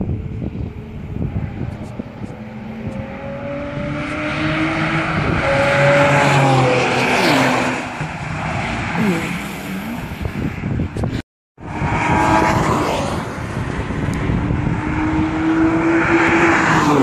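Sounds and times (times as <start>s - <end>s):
sports car passing at speed: 0.0s - 10.8s, 11.6s - 17.0s
wind buffeting microphone: 0.0s - 17.0s.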